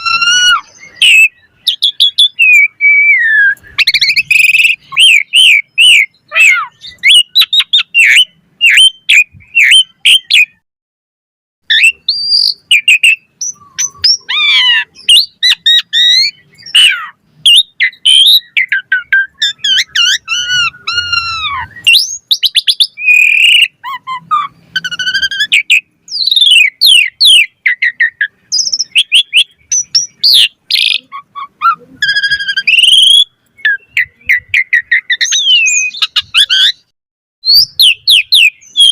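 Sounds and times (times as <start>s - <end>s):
starling singing: 0.0s - 10.6s, 11.7s - 38.9s.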